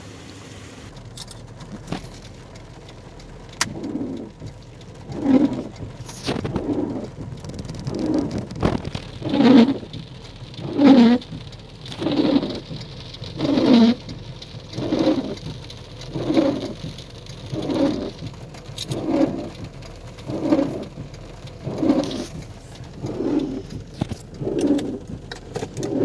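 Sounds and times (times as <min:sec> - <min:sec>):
windshield wipers rubbing: 0:00.9 - 0:26.0.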